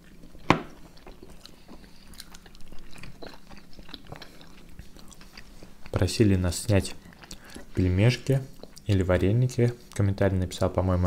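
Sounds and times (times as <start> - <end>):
wet chewing mouth sounds: 0.0 - 9.1.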